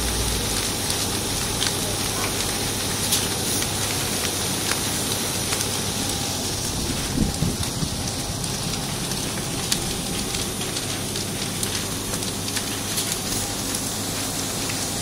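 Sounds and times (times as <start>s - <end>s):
fire crackling and hissing: 0.0s - 15.0s.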